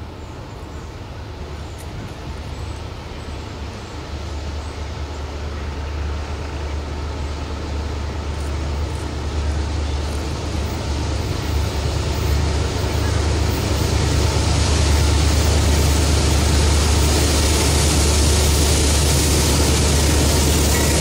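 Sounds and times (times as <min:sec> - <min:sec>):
locomotive engine rumble: 0:00.0 - 0:21.0.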